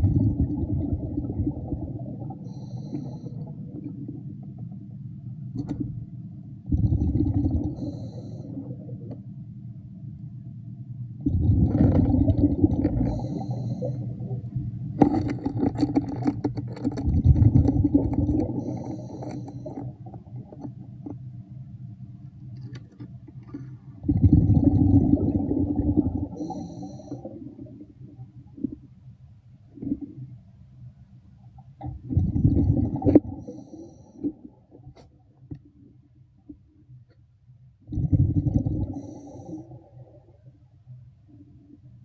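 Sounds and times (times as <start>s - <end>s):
exhaled air bubbling underwater: 0.0s - 10.4s, 11.0s - 22.6s, 23.2s - 29.0s, 29.7s - 30.4s, 31.5s - 36.7s, 37.8s - 42.0s.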